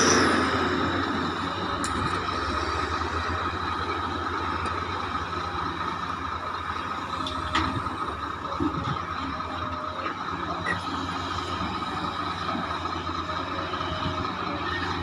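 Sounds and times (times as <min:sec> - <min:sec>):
excavator diesel engine drone: 0:00.0 - 0:15.0.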